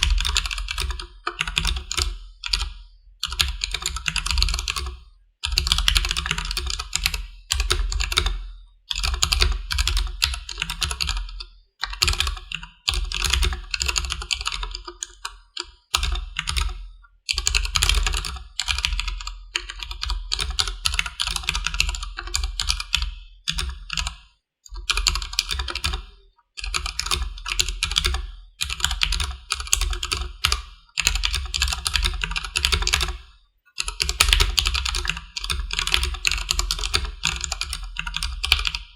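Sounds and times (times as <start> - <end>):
typing on mechanical keyboard: 0.0 - 24.2, 24.8 - 38.9.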